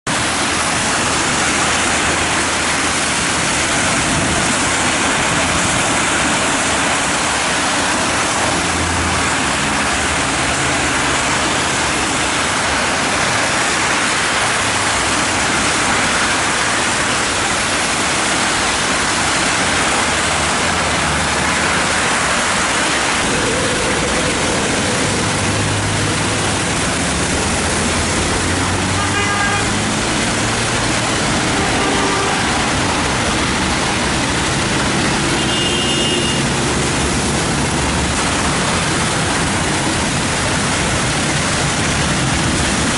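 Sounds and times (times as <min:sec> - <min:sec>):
hum of many engines: 0:00.0 - 0:42.9
heavy engine drone: 0:00.1 - 0:42.9
tyres hissing on wet road: 0:00.1 - 0:42.9.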